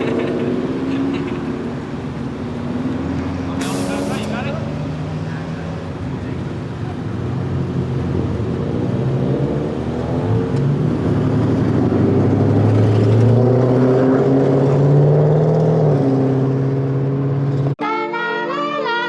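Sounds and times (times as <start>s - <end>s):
car engine pulling: 0.0s - 17.8s.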